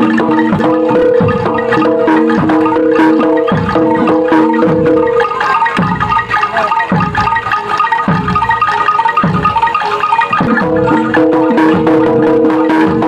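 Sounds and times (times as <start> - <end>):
tuned metal mallet instruments: 0.0 - 13.0.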